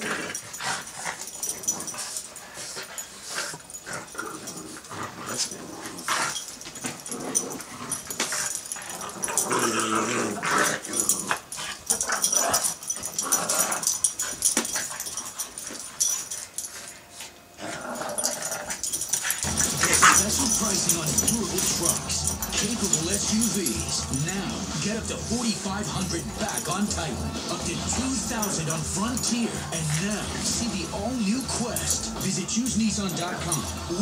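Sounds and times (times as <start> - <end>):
dogs growling in play: 0.0 - 32.2.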